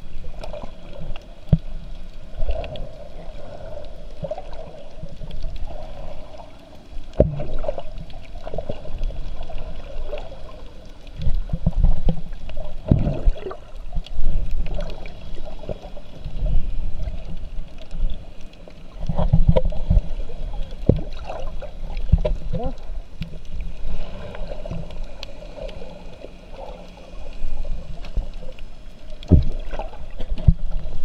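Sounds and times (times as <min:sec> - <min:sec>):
muffled underwater water movement: 0:00.0 - 0:31.0.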